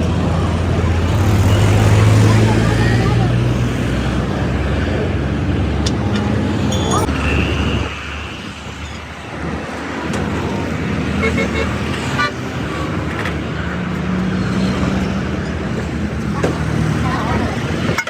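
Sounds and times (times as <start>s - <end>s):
road traffic engines: 0.0s - 18.0s.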